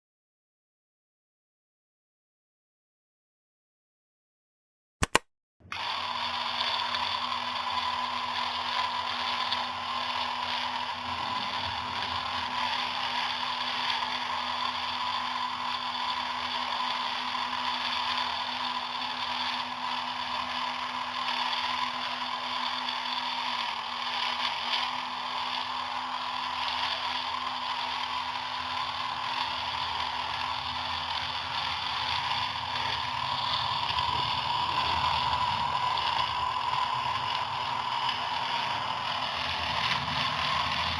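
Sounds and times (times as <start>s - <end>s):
toy motor whining: 5.7s - 40.9s
gears rattling: 6.6s - 40.9s.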